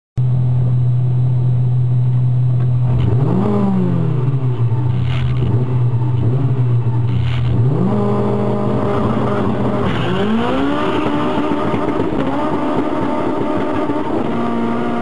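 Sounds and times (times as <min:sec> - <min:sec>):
car engine revving: 0:02.8 - 0:15.0.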